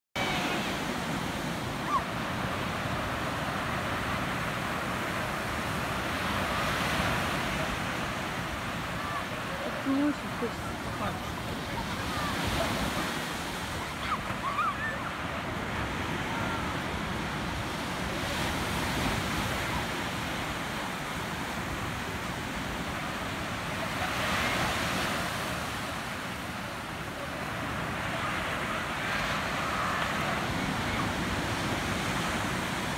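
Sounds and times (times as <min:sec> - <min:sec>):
waves breaking on beach: 0:00.2 - 0:32.9.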